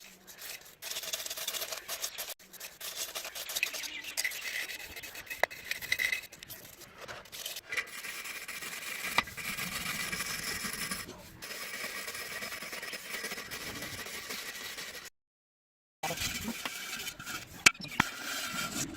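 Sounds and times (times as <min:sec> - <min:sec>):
abrasive rubbing and scraping: 0:00.0 - 0:15.1, 0:16.0 - 0:18.9.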